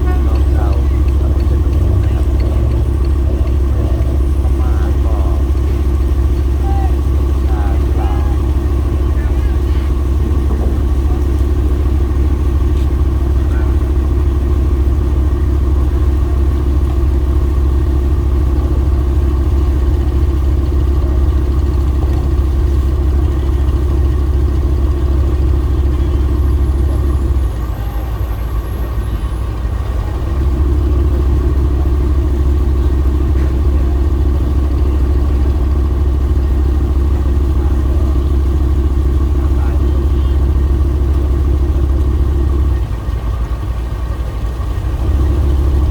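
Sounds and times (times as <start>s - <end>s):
boat engine running: 0.0s - 45.9s.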